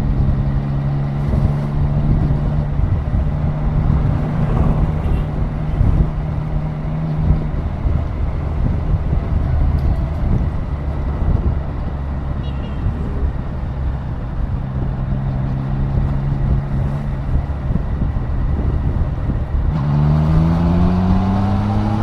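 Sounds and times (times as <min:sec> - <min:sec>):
motorcycle engine running: 0:00.0 - 0:19.8
wind noise on microphone: 0:00.0 - 0:22.0.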